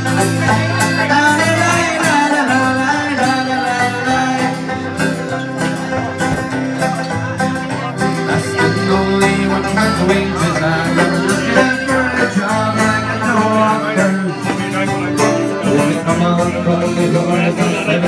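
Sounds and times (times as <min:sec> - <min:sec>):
person singing: 0:00.0 - 0:06.0, 0:07.7 - 0:18.0
plucked strings folk music: 0:00.0 - 0:18.0.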